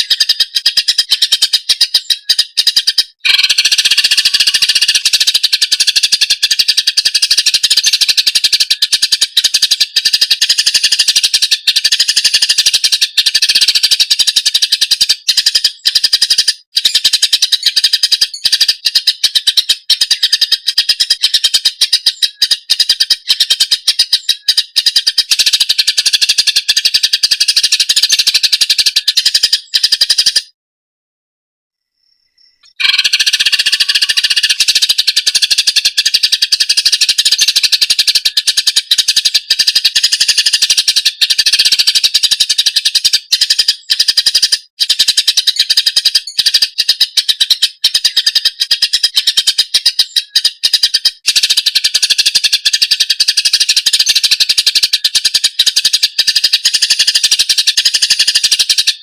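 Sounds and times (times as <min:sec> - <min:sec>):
bird chattering trill: 0:00.0 - 0:30.6, 0:32.5 - 0:59.0.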